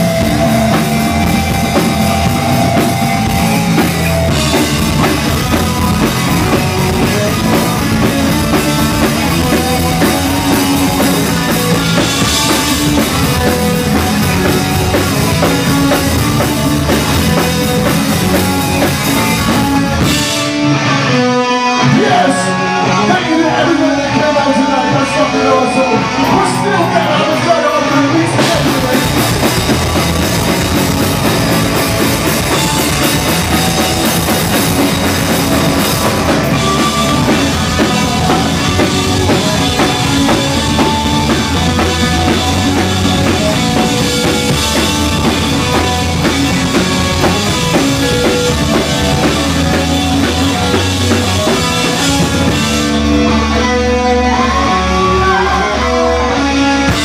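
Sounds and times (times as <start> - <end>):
drum kit: 0.0 - 55.9, 56.6 - 57.0
distorted electric guitars: 0.0 - 57.0
electric bass: 0.0 - 57.0.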